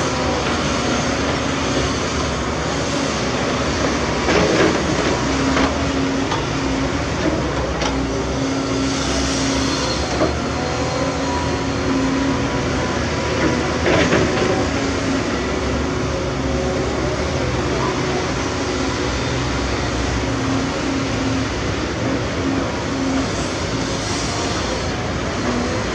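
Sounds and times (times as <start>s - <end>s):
heavy diesel machinery droning: 0.0s - 25.9s.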